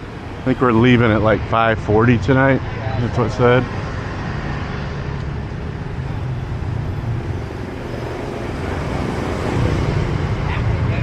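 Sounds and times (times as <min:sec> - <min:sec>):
motorbikes and cars passing: 0:00.0 - 0:11.0.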